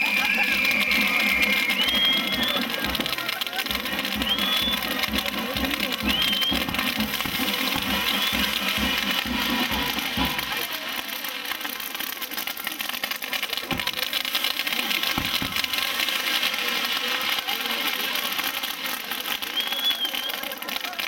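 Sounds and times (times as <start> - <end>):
fireworks crackling and fizzing: 0.0 - 21.0.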